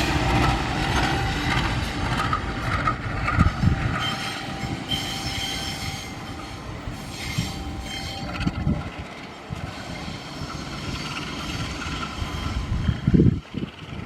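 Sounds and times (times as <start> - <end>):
train rumble: 0.0 - 14.0
train wheels squealing on rails: 0.0 - 14.0.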